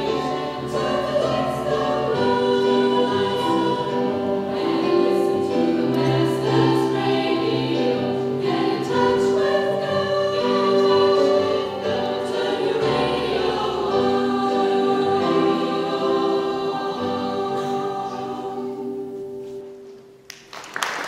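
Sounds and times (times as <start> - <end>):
women's choir singing chords: 0.0 - 19.9.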